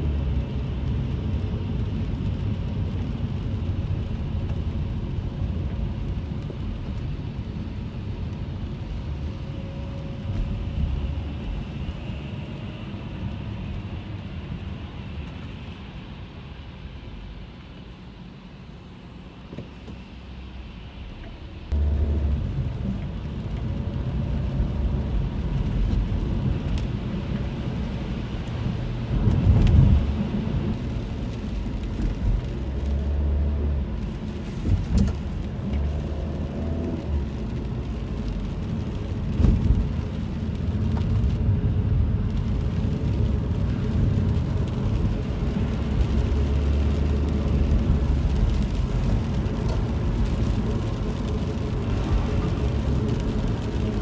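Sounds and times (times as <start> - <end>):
car engine and tyres on wet road: 0.0 - 54.0.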